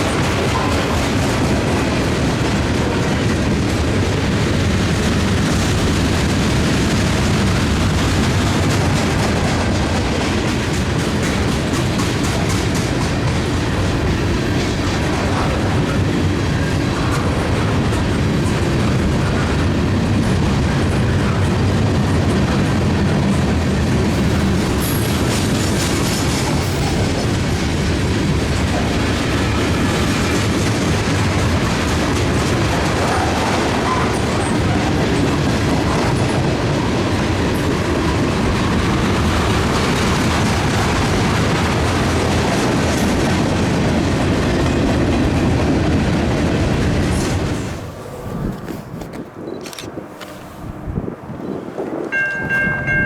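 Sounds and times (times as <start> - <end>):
wheels clicking over rail joints: 0.0 - 50.5
freight train rumbling past: 0.0 - 53.0.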